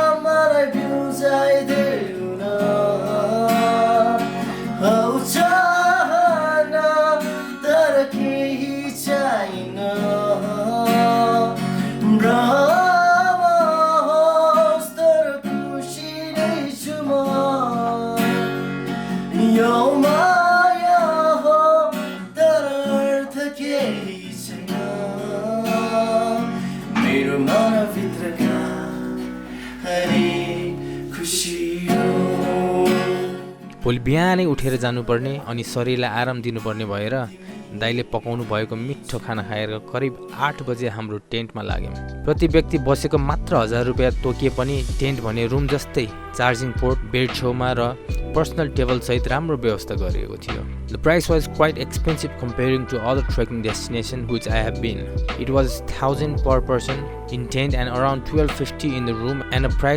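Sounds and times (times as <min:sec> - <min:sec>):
strummed acoustic guitar: 0:00.0 - 0:40.9, 0:41.7 - 0:59.9
man singing: 0:00.0 - 0:59.9.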